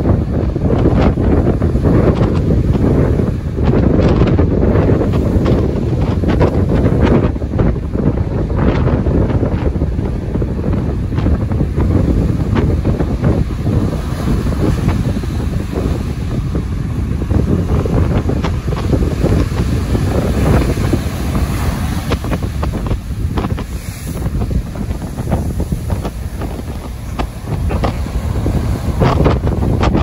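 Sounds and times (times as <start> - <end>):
ocean waves breaking: 0.0 - 30.0
wind buffeting microphone: 0.0 - 30.0.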